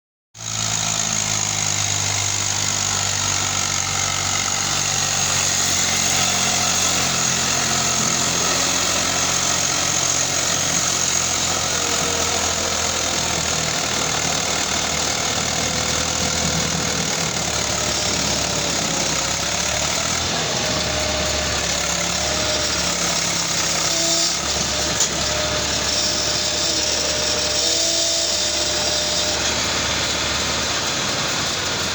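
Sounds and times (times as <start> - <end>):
tractor diesel engine running: 0.4 - 31.9.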